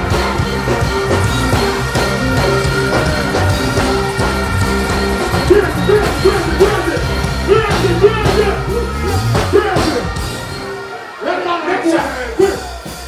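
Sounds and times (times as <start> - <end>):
dancehall music over sound system: 0.0 - 13.0.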